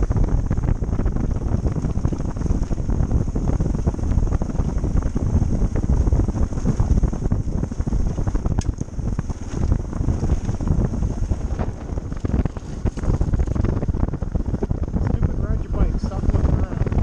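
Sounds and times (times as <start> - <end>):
motorcycle riding on dirt road: 0.0 - 17.0
wind buffeting microphone: 0.0 - 17.0.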